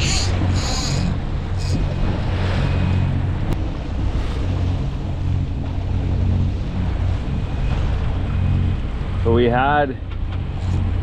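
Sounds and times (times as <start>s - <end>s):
low engine hum: 0.0s - 11.0s
water splashing along hull: 0.0s - 11.0s
wind on microphone: 0.0s - 11.0s.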